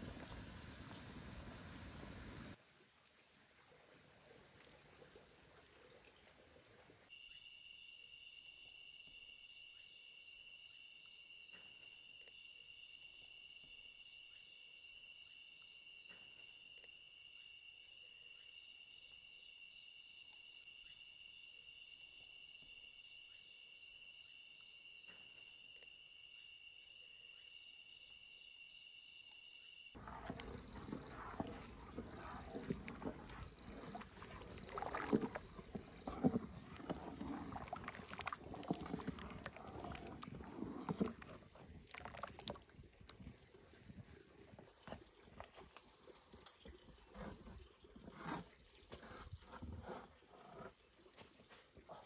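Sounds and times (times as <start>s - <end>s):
insects buzzing: 7.1s - 51.7s.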